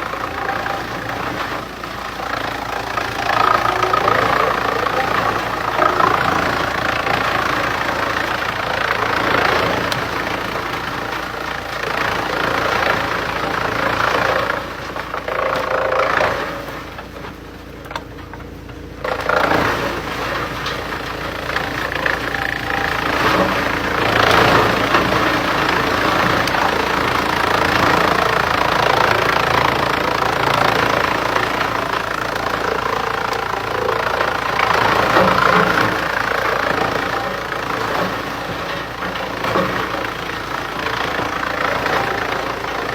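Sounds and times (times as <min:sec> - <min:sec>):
wood chipper engine drone: 0:00.0 - 0:42.9
wood grinding in chipper: 0:00.0 - 0:42.9.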